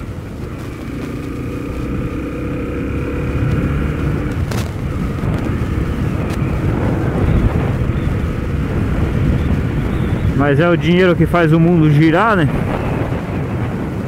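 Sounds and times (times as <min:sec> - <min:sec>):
motorcycle engine running: 0:00.0 - 0:14.0
wind buffeting on microphone: 0:00.0 - 0:14.0.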